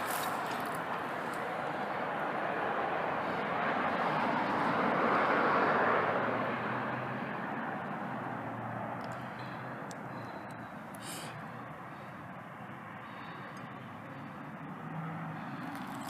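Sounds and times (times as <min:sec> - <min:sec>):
vehicle passing by: 0:00.0 - 0:16.0.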